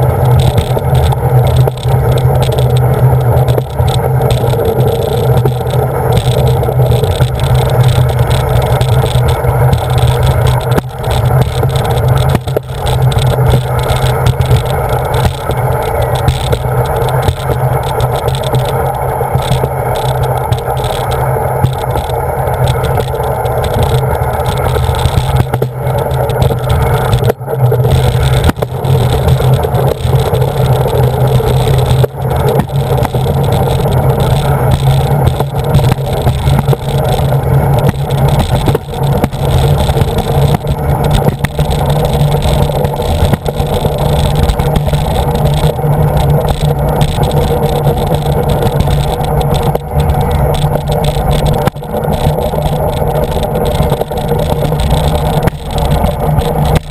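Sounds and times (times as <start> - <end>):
sled rumbling and scraping on track: 0.0 - 56.9.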